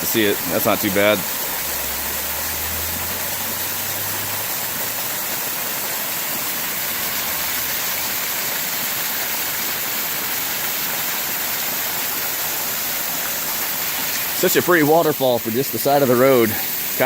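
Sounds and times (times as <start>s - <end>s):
small waterfall rushing: 0.0s - 17.0s.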